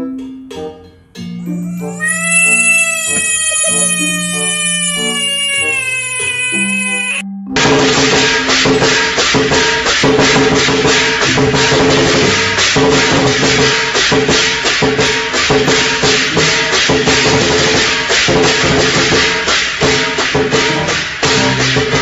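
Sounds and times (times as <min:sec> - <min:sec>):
instrumental music with percussion beat: 0:00.2 - 0:22.0.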